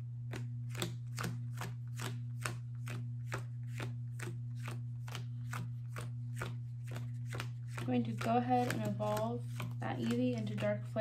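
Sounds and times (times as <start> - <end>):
cards being shuffled: 0.2 - 11.0.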